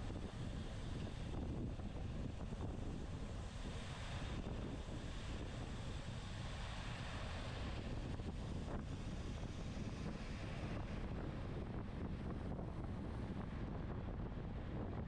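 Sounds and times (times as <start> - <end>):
wind buffeting microphone: 0.0 - 6.3, 7.5 - 15.0.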